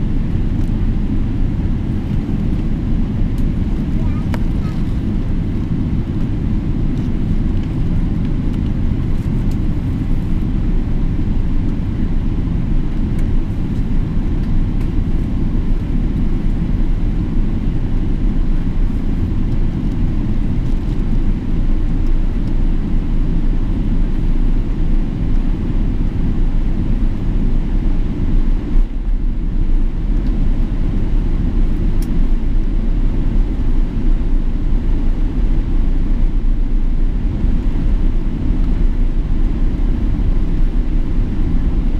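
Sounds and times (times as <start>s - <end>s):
jet airliner engine rumble: 0.0s - 41.9s.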